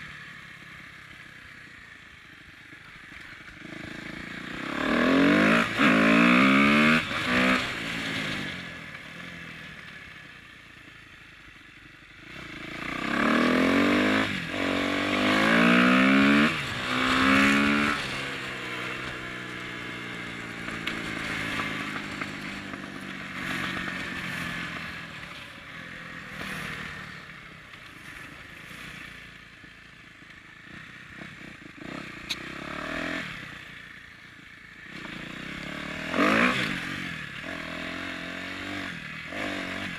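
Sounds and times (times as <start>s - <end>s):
motocross bike accelerating: 0.0s - 10.5s, 11.1s - 39.9s.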